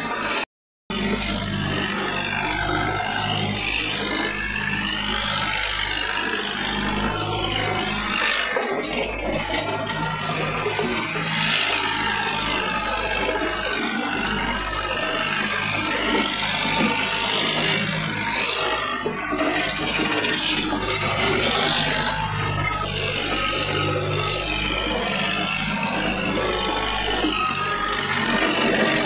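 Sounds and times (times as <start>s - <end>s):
rough driving noise: 0.0s - 29.0s.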